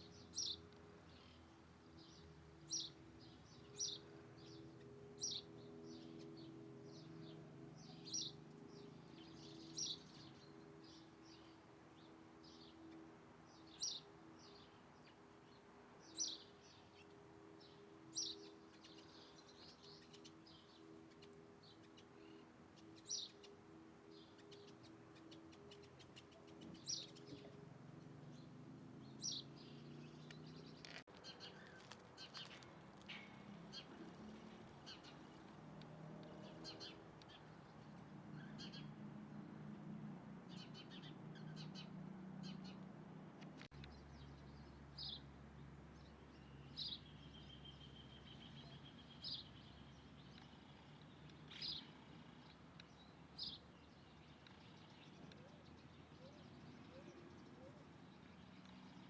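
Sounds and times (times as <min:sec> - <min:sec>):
bird chirping: 0:00.0 - 0:39.8, 0:40.5 - 0:59.0.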